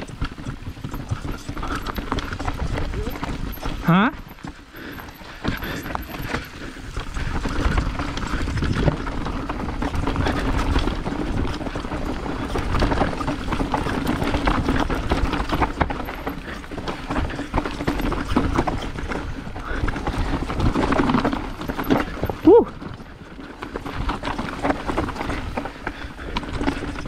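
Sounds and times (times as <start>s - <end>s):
bike tyres rolling over dirt: 0.0s - 27.0s
chain and bike rattling: 0.0s - 27.0s.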